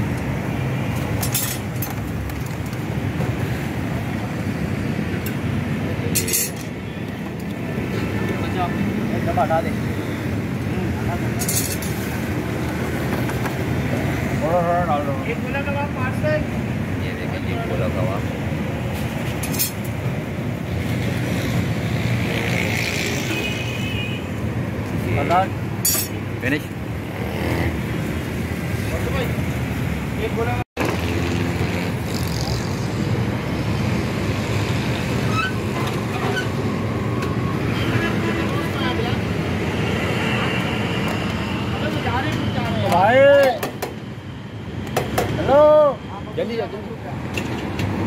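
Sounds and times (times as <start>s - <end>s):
low rumble of street noise: 0.0s - 48.0s.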